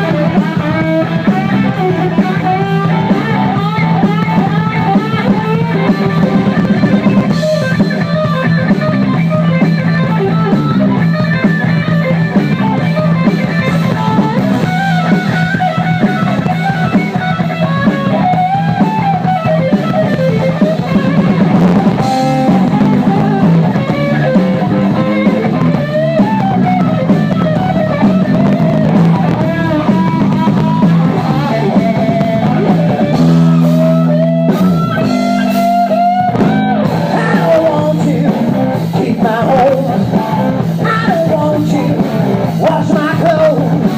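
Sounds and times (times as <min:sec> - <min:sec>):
bass guitar: 0:00.0 - 0:43.9
drum kit: 0:00.0 - 0:43.9
electric guitar lead line: 0:00.0 - 0:43.9.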